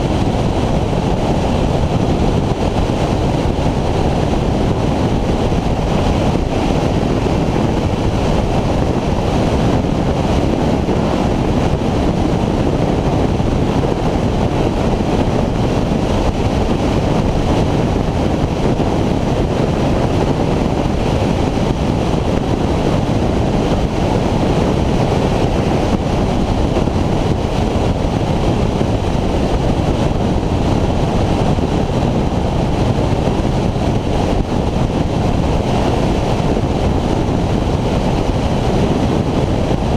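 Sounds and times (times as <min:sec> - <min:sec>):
motorcycle running: 0:00.0 - 0:39.9
wind rush on microphone: 0:00.0 - 0:39.9.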